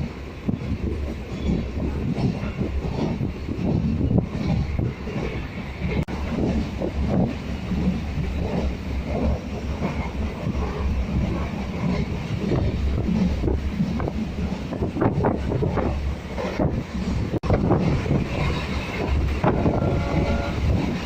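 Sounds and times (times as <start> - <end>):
train clatter: 0.0 - 21.0
train wheels rumbling on rails: 0.0 - 21.0.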